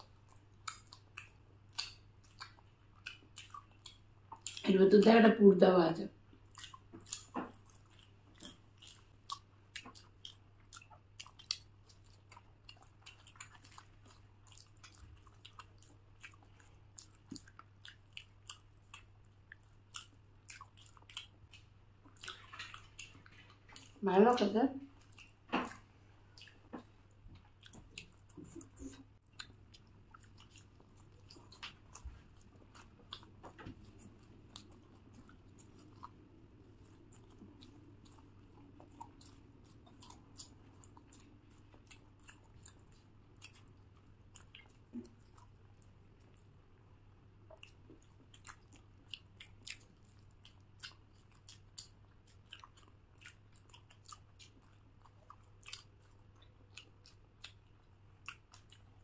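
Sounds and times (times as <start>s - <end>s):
people chewing and mouth clicks: 0.0s - 5.0s, 6.2s - 59.0s
low steady hum: 0.0s - 59.0s.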